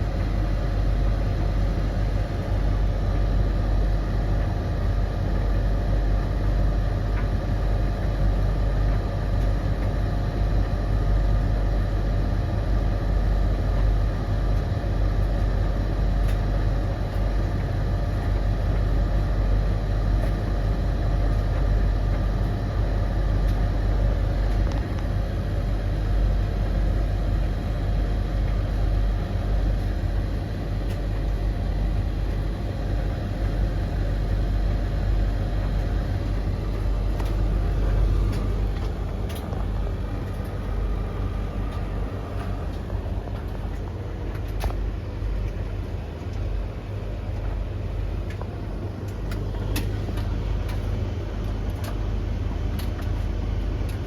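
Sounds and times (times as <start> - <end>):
constant hum: 0.0 - 54.0
tumble dryers rumbling: 0.0 - 54.0.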